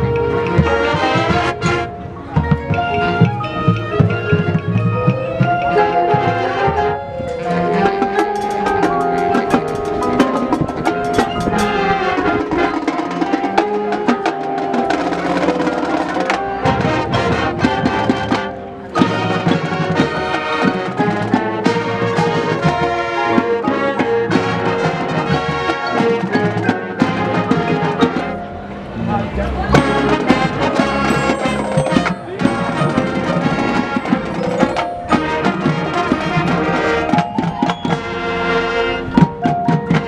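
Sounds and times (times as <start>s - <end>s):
marching band playing: 0.0s - 40.0s.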